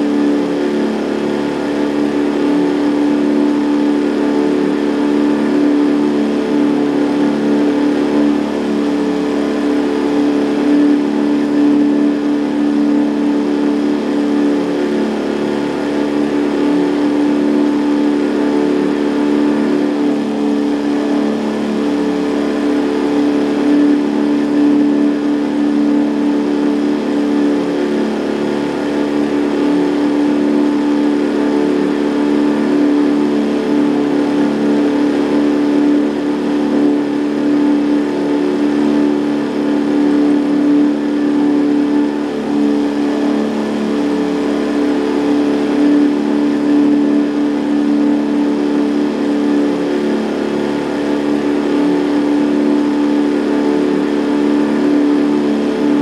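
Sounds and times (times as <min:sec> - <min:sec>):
outboard motor droning: 0:00.0 - 0:56.0.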